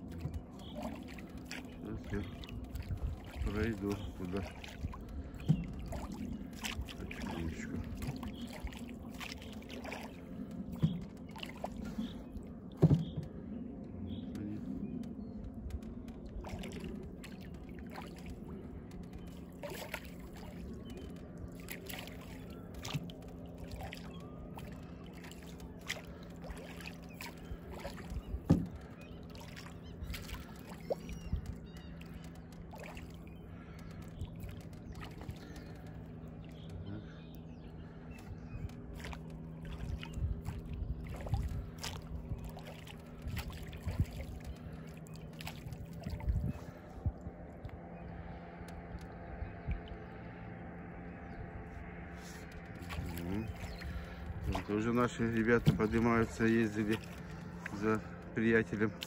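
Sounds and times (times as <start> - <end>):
water drips and splashes: 0.0 - 13.2, 15.7 - 36.8, 38.8 - 47.8, 52.4 - 59.0
faint low hum: 0.0 - 59.0
paddle pulling through water: 0.0 - 59.0.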